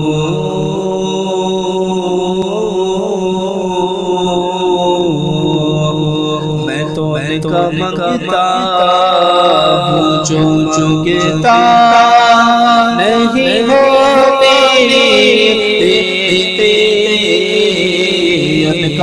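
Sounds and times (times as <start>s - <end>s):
man singing with echo: 0.0s - 19.0s.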